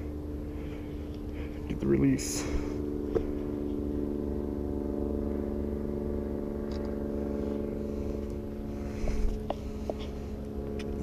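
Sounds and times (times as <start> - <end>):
motor droning: 0.0 - 11.0.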